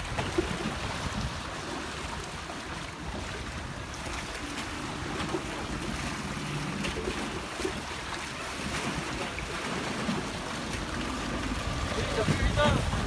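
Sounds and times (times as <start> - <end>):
outboard motor hum: 0.0 - 13.0
water lapping: 0.0 - 13.0
wind on microphone: 0.0 - 13.0.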